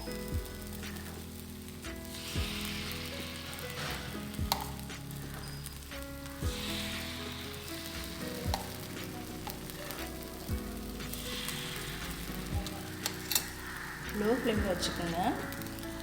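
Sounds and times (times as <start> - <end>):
background music with soft beat: 0.0 - 16.0
batter sizzling in oil: 0.0 - 16.0.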